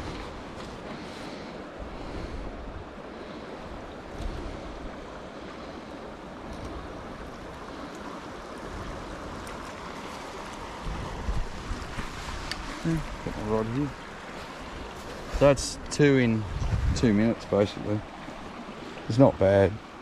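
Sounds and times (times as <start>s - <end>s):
river water rushing over riffle: 0.0s - 20.0s
wind rumble on microphone: 1.8s - 5.4s, 6.0s - 18.7s.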